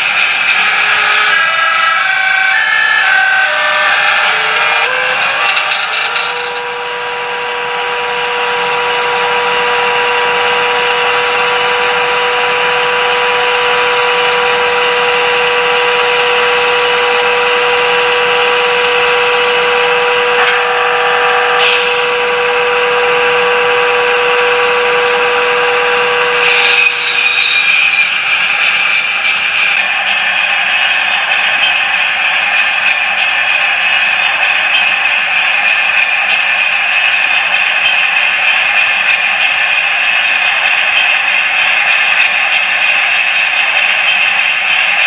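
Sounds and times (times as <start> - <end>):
model train motor whine: 0.0 - 45.0.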